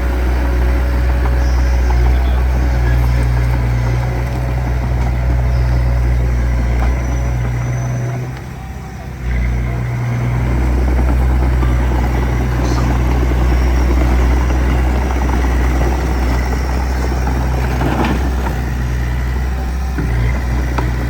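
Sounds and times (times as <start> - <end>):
heavy diesel engine under load: 0.0 - 21.0.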